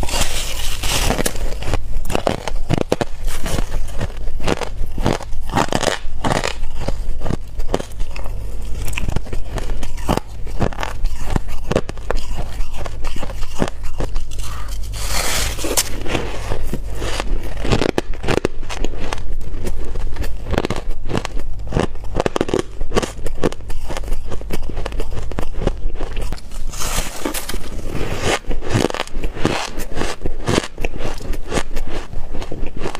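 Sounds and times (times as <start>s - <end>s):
crunchy ice chewing: 0.0s - 32.9s.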